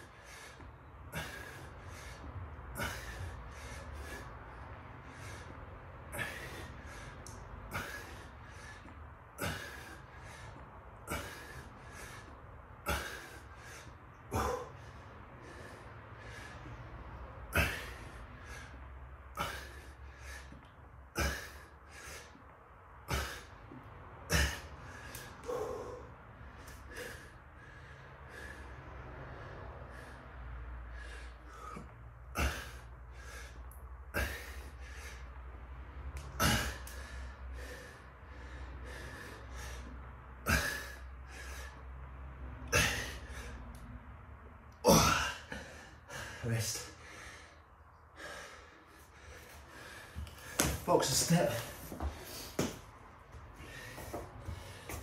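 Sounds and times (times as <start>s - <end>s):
man breathing hard: 0.0s - 55.0s.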